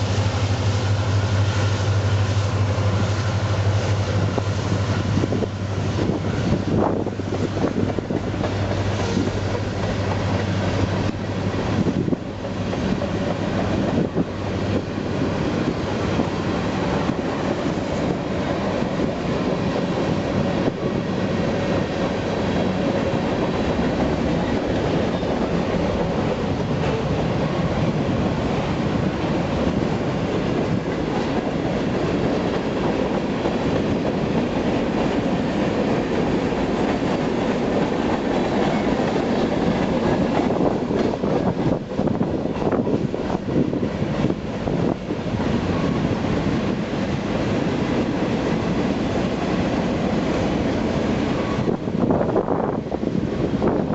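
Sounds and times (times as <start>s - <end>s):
freight train wheels clattering: 0.0s - 53.9s.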